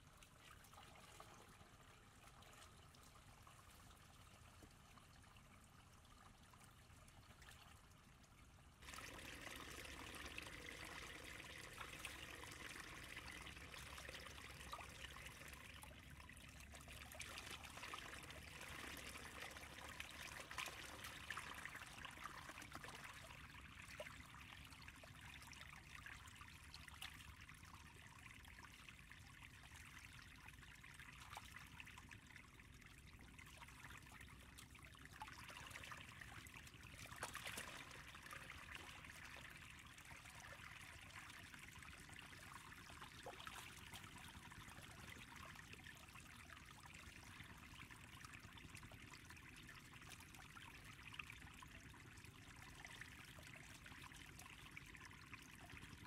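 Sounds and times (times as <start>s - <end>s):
muddy water trickling: 0.0s - 56.0s.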